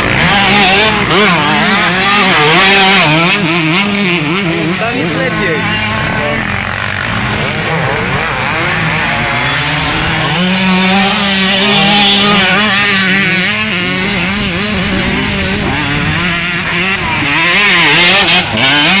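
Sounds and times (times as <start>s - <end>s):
motocross bike engines revving: 0.0s - 19.0s
steady engine note: 0.0s - 19.0s.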